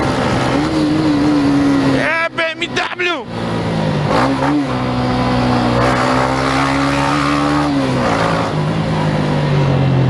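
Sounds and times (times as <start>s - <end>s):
motorcycle engine under throttle: 0.0s - 2.1s, 3.3s - 10.0s.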